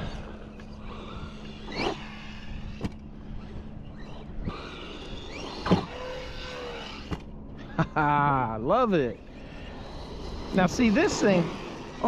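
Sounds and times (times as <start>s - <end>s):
rc car motor whine: 0.0s - 12.0s.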